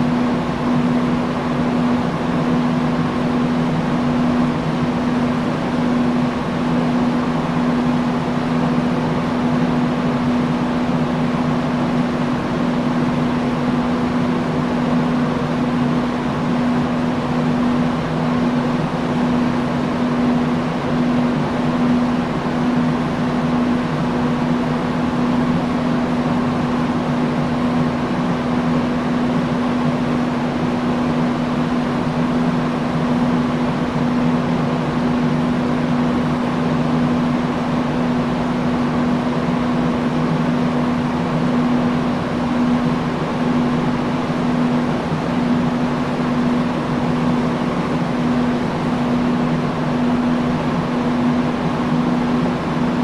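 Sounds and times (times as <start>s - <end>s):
industrial fan running: 0.0s - 53.0s.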